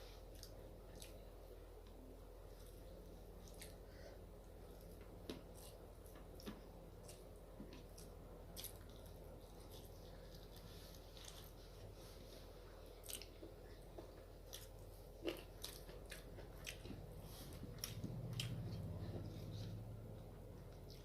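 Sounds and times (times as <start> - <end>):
person chewing: 2.4 - 19.8.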